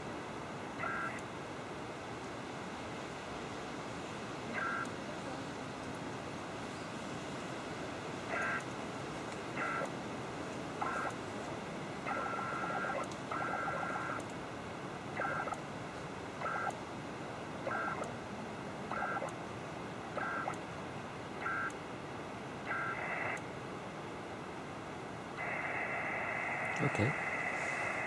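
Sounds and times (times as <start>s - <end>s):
radio band hiss: 0.0s - 1.4s, 3.4s - 24.3s, 25.2s - 28.0s.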